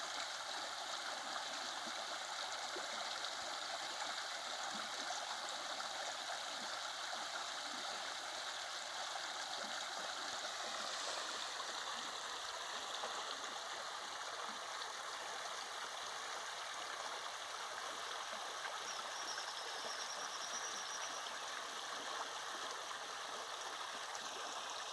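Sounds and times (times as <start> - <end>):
stream water gurgling: 0.0 - 24.9.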